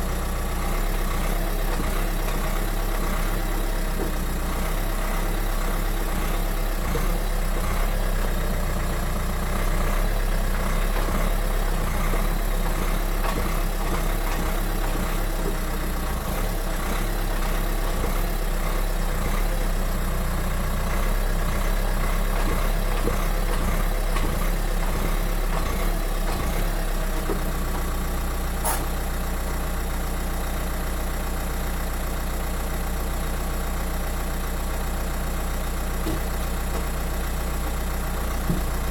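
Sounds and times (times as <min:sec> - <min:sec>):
car engine and drivetrain rumble: 0:00.0 - 0:38.9.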